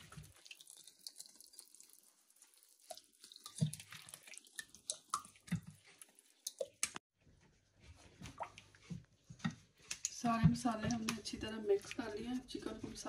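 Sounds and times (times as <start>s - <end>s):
wet stirring and sloshing: 0.0s - 13.0s.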